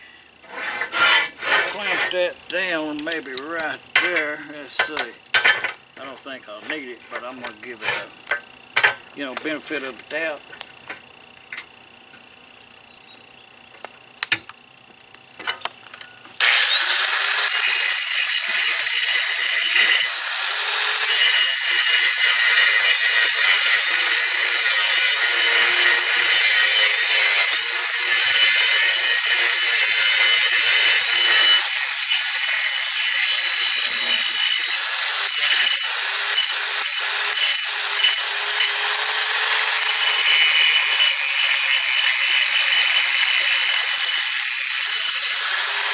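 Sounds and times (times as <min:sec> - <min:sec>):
angle grinder grinding steel: 0:00.0 - 0:13.6, 0:15.4 - 0:45.9.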